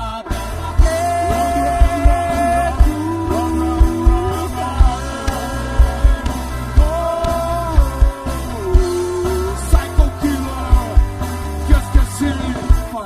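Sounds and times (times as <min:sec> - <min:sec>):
person singing long notes: 0:00.0 - 0:11.1
bass: 0:00.0 - 0:13.0
drums: 0:00.0 - 0:13.0
guitar: 0:00.0 - 0:13.0.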